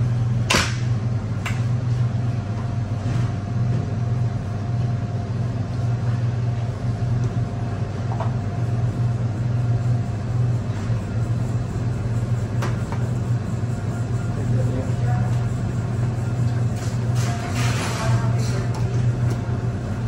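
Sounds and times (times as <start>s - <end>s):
kitchen machinery humming: 0.0s - 20.0s.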